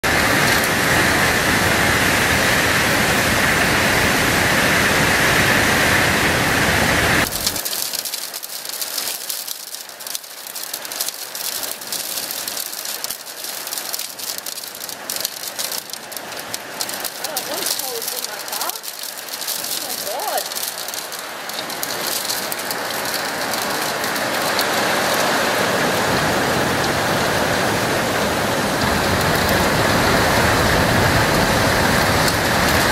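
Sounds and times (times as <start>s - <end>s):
hailstones pelting down: 0.0s - 32.9s
hailstones ticking on hard surfaces: 0.1s - 32.9s.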